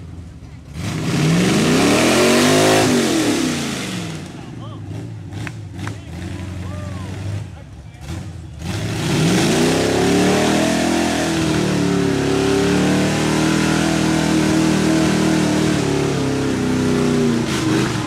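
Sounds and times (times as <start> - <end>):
truck engine revving hard: 0.0 - 18.0.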